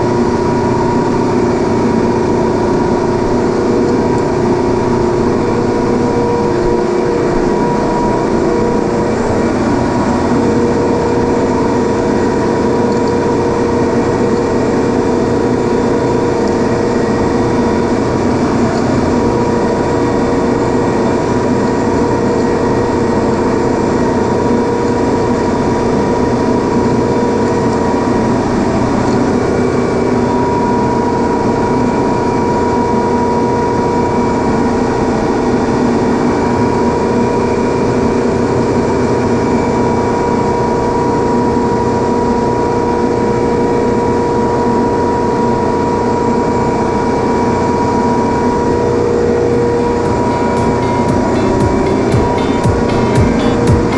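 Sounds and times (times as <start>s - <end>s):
refrigeration machinery drone: 0.0s - 53.9s.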